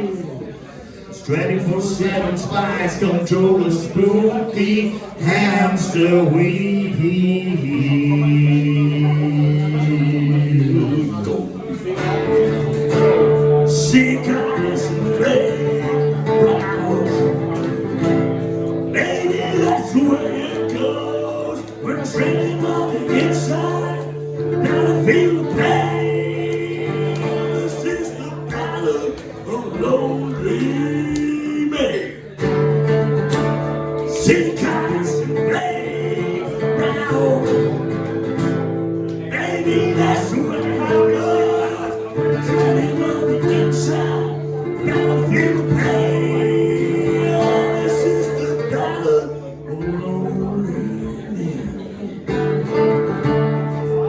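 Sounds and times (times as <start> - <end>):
person singing: 1.3 - 32.6, 33.5 - 38.3, 39.2 - 52.2
rock band guitar chords: 5.3 - 51.4.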